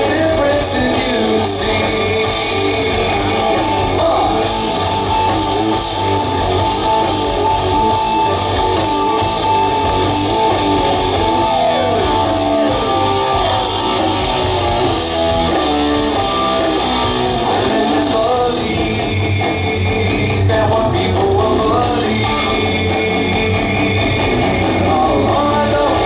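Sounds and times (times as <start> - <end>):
rock band playing live: 0.0 - 26.0
sliding electric guitar notes: 0.0 - 26.0.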